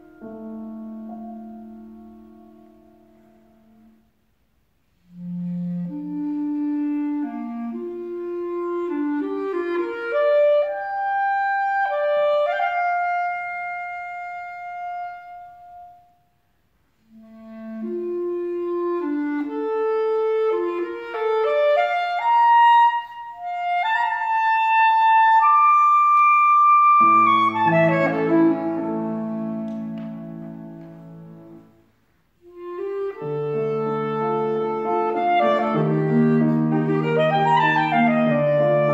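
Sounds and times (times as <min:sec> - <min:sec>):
clarinet playing slow melody: 0:00.0 - 0:04.2, 0:04.9 - 0:38.9.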